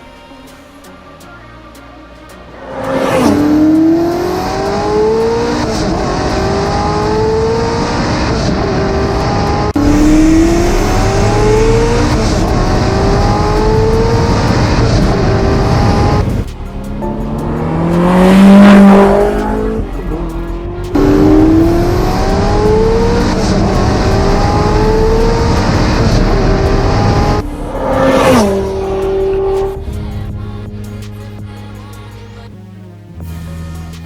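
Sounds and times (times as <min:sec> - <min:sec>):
car engine accelerating hard: 0:02.5 - 0:30.8.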